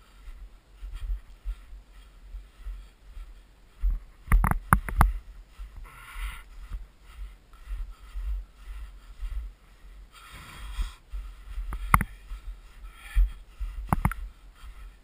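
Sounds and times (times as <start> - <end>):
footsteps crunching in snow: 0.0 - 15.0
low rumble on microphone: 0.0 - 15.0.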